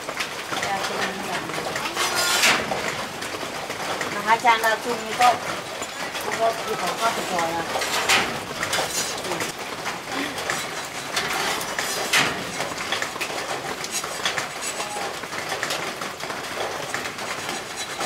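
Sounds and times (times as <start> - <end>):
knocks and taps from building work: 0.0 - 18.0
steady noisy background: 0.0 - 18.0.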